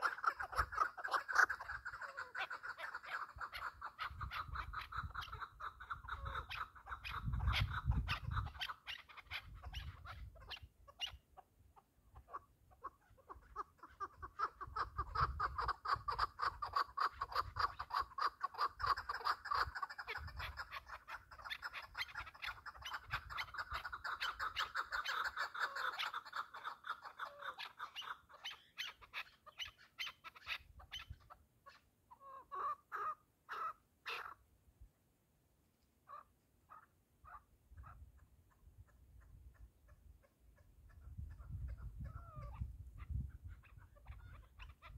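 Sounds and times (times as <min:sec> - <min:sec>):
partridge calling: 0:00.0 - 0:34.4, 0:36.0 - 0:44.9.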